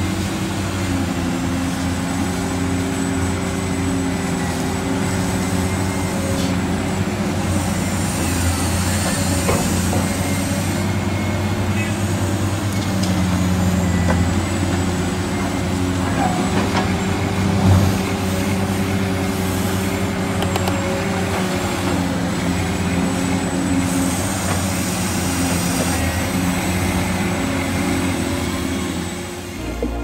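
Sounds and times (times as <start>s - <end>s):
electric motors humming: 0.0s - 30.0s.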